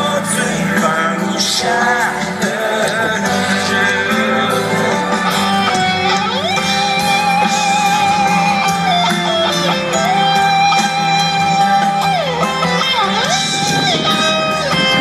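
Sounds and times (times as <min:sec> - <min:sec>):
electric guitar sustained notes: 0:00.0 - 0:15.0
live rock band playing: 0:00.0 - 0:15.0.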